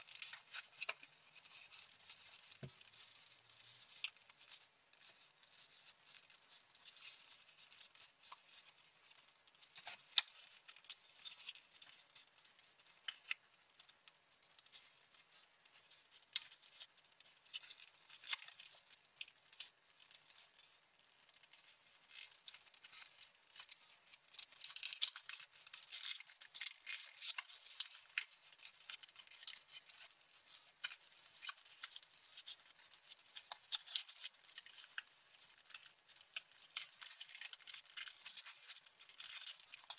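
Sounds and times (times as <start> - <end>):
paper crackles and taps: 0.0 - 39.9
paper rustling and crinkling: 0.0 - 39.9.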